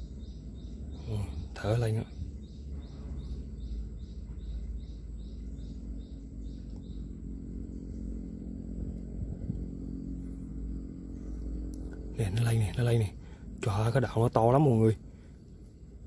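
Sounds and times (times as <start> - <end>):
small bird chirping: 0.0 - 16.0
steady low rumble: 0.0 - 16.0.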